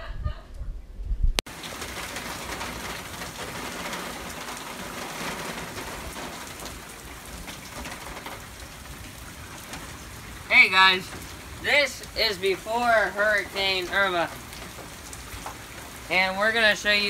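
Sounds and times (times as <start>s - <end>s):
steady rain falling: 1.5s - 17.0s.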